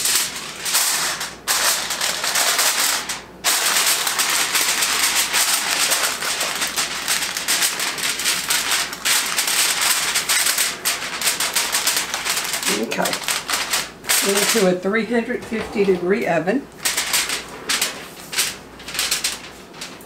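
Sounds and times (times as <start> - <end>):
aluminium foil crinkling: 0.0 - 16.0, 16.7 - 20.0.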